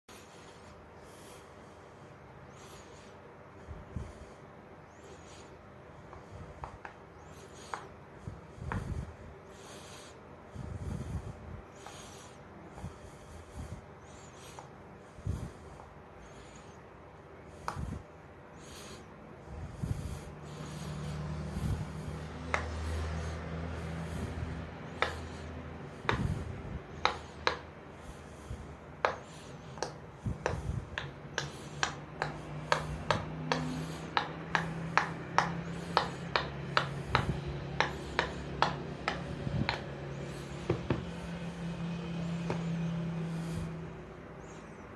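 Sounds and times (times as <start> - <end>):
steady low hum: 0.1 - 44.9.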